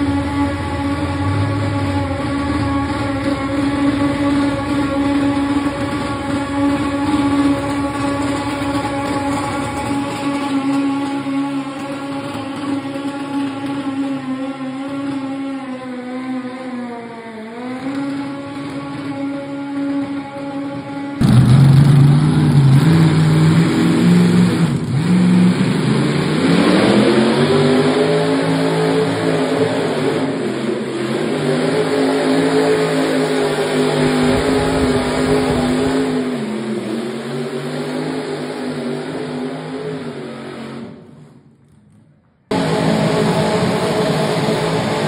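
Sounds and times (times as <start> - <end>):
tractor engine running hard: 0.0 - 41.4, 42.5 - 45.0.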